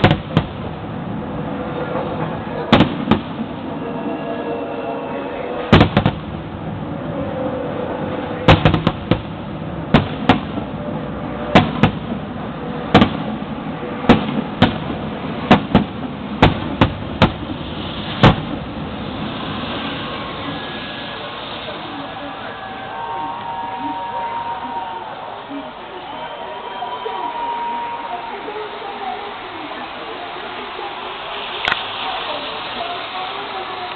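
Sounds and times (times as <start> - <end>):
fireworks bangs: 0.0 - 4.4, 5.5 - 7.0, 7.7 - 25.1, 27.1 - 33.9.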